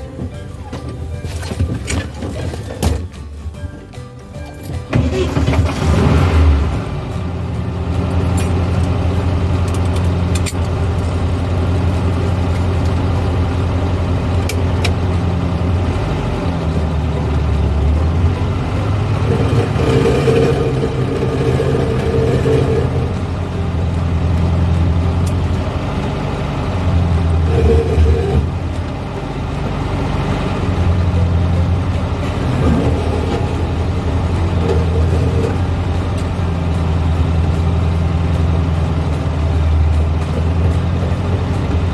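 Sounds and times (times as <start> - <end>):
car engine humming: 0.0 - 41.9.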